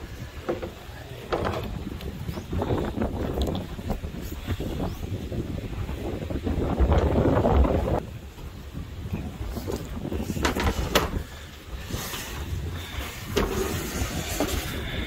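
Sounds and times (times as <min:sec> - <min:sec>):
wind on the microphone: 0:00.0 - 0:15.0.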